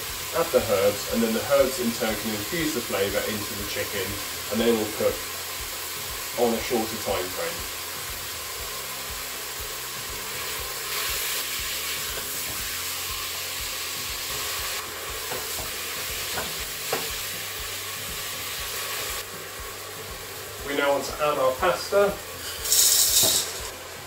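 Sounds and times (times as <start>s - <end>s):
chicken sizzling in a pot: 0.0s - 24.0s.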